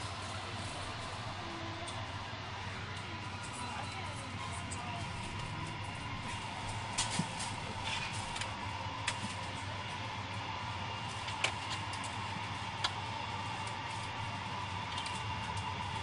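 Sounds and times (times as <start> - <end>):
aircraft cabin hum: 0.0 - 16.0.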